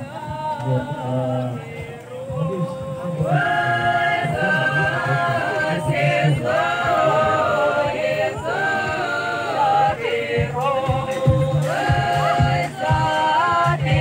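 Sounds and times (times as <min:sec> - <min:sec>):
voices singing a slow chant: 0:00.0 - 0:14.0.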